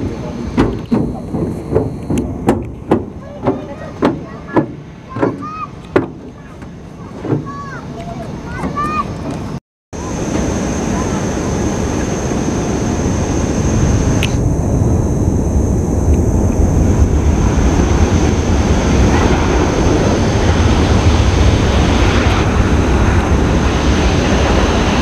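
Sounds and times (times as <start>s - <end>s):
jet engines rumbling: 0.0s - 25.0s
wind buffeting microphone: 0.0s - 25.0s.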